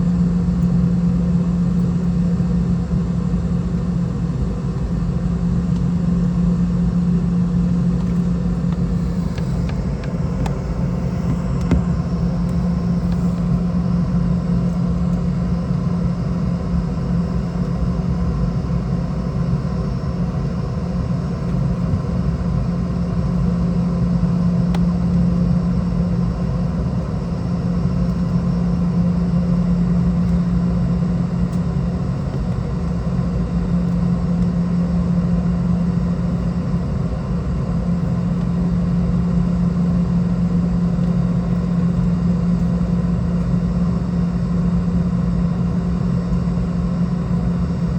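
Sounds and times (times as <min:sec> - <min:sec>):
aircraft cabin engine drone: 0:00.0 - 0:47.9.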